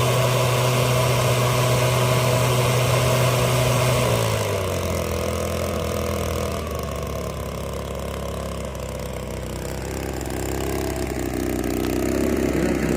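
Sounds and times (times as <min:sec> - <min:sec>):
engine running at low speed: 0:00.0 - 0:12.9.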